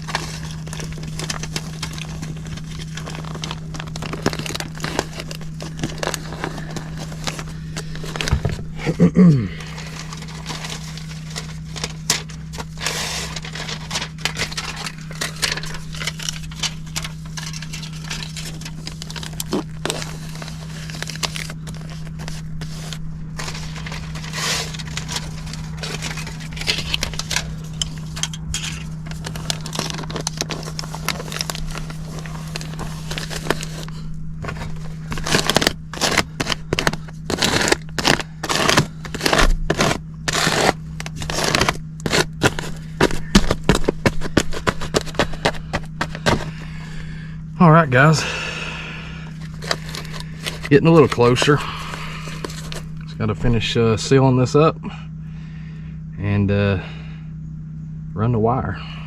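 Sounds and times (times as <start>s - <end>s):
ductwork crackling and scraping: 0.0s - 56.0s
steady low hum: 0.0s - 59.0s.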